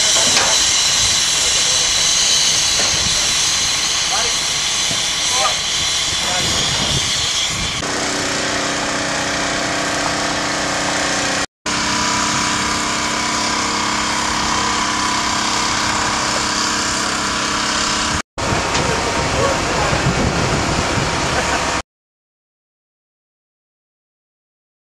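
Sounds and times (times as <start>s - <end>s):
crane engine and hydraulics humming: 0.0s - 21.8s.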